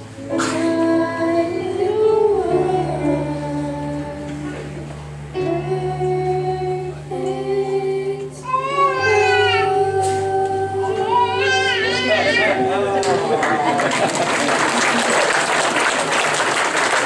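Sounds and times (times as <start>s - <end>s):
person singing a slow melody: 0.0s - 13.8s
held accompaniment chords: 0.0s - 14.8s.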